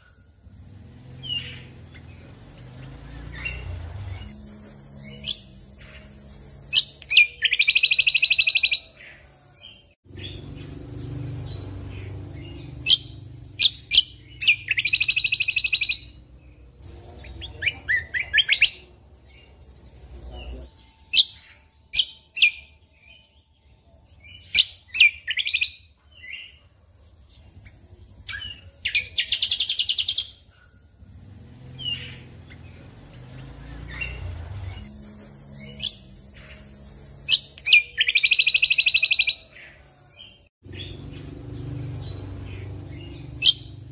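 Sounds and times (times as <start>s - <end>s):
fast rattling bird trills: 0.0s - 20.0s, 27.4s - 43.9s
songbird chirping: 0.0s - 43.9s.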